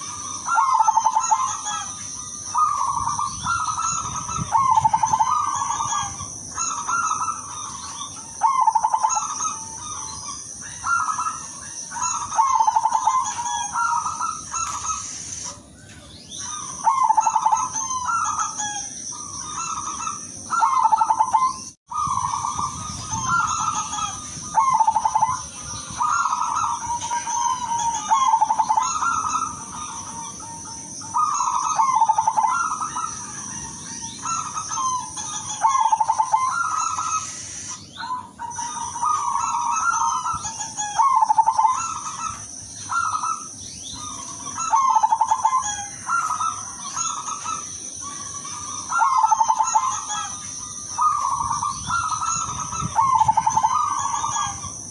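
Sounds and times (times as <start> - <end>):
dove cooing: 0.0 - 54.9
steady high-pitched whine: 0.0 - 54.9.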